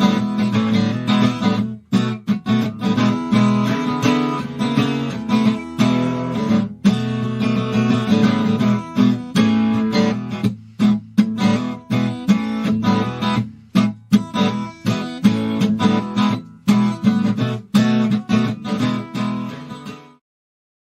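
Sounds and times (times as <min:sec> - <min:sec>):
strummed acoustic guitar: 0:00.0 - 0:20.2.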